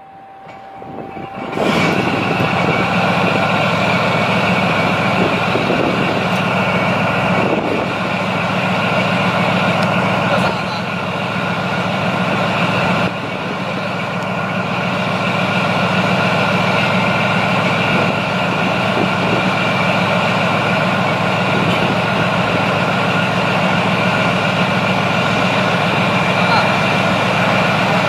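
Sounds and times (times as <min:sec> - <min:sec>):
tank diesel engine running: 0:00.0 - 0:28.0.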